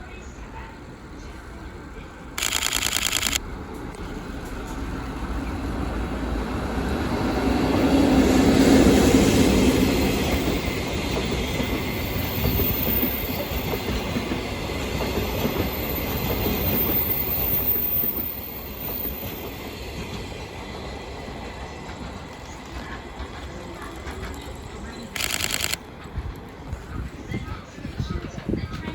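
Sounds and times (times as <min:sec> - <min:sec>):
train rumbling past: 0:00.0 - 0:28.9.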